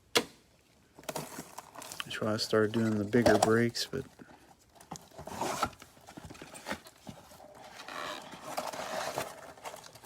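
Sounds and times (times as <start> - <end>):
paper and foil rustling: 1.0 - 10.0.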